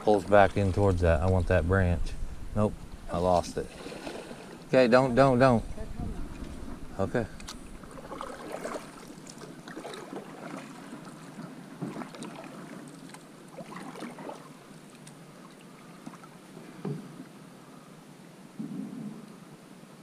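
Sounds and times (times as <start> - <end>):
canoe paddles splashing: 0.0 - 17.3.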